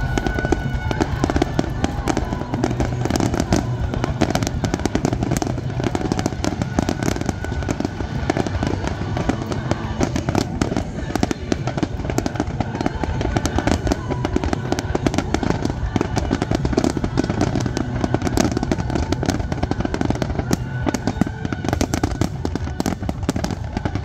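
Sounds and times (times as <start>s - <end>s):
continuous low rumble: 0.0s - 24.0s
fireworks bangs and crackles: 0.0s - 24.0s.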